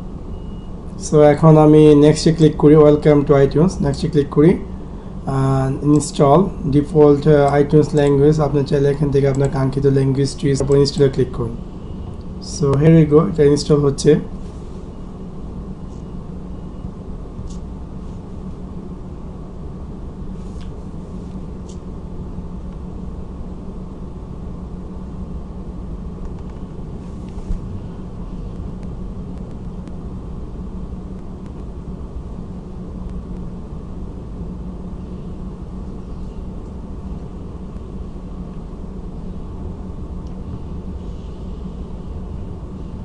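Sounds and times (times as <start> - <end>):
low background rumble with hum: 0.0 - 43.0.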